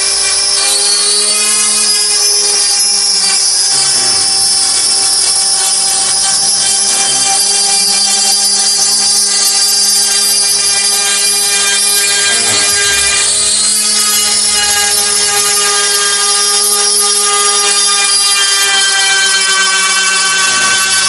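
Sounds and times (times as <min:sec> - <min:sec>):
hiss of cutting acrylic: 0:00.0 - 0:21.0
router spindle whining: 0:00.0 - 0:21.0.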